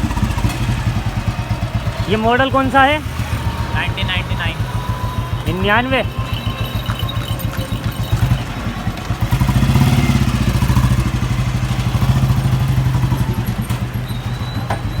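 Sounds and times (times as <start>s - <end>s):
motorcycle engine thumping and revving: 0.0s - 15.0s.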